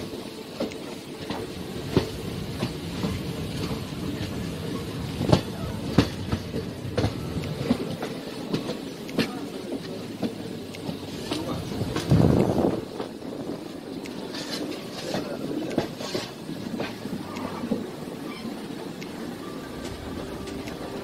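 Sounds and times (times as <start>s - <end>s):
train coach rumbling on track: 0.0s - 21.0s
wheel clacks over rail joints: 0.0s - 21.0s.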